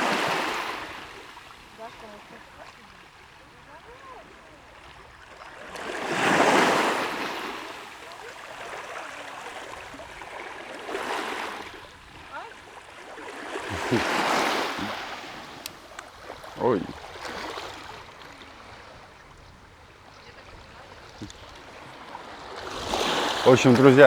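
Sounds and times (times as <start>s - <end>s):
waves washing onto stony shore: 0.0s - 24.0s.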